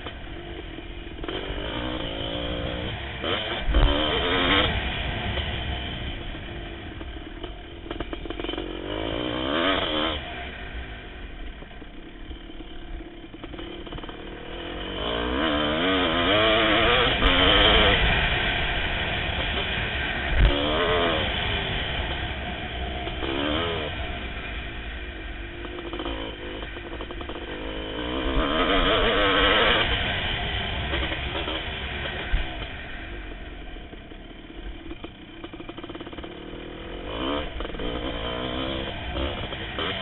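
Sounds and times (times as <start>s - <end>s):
wind rumble: 0.0s - 14.8s, 16.2s - 40.0s
motorcycle engine revving: 0.0s - 40.0s.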